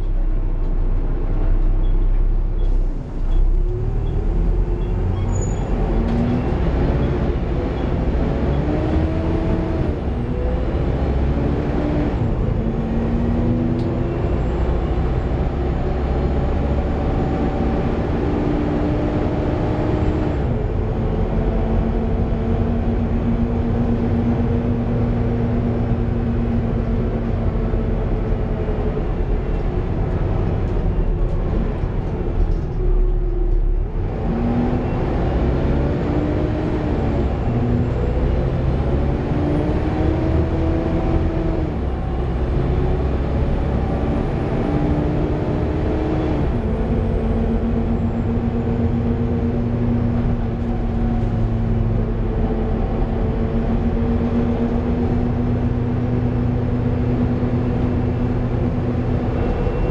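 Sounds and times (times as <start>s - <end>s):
bus engine rising in pitch: 0.0s - 59.9s.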